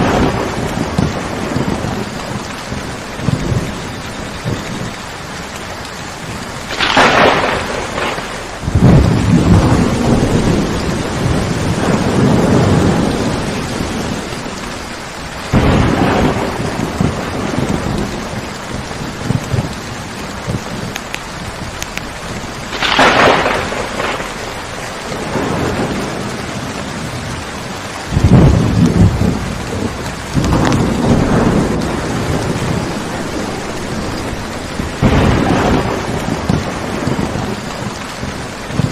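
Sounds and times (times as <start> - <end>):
steady rain: 0.0 - 38.9
thunder cracks and rumbles: 0.0 - 38.9.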